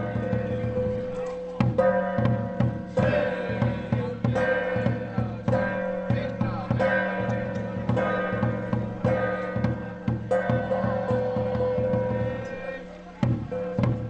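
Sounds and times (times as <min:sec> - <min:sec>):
steady drum beat: 0:00.0 - 0:14.0
sustained melodic tones: 0:00.0 - 0:14.0.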